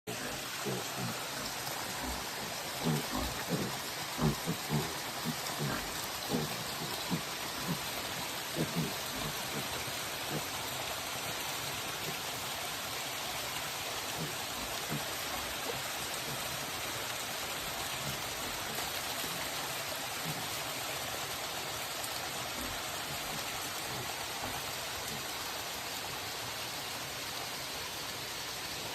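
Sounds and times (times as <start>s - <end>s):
steady rain falling: 0.1s - 28.9s.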